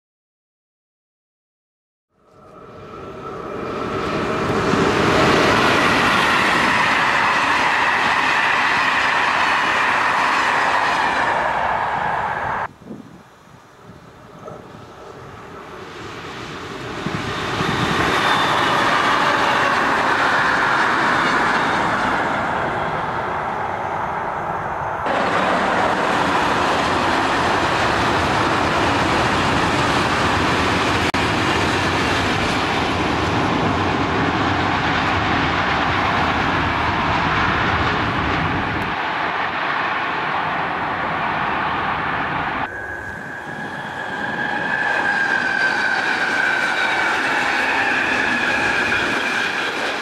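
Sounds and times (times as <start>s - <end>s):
freight train wheels rumbling on rail: 2.4s - 13.2s, 13.8s - 50.0s.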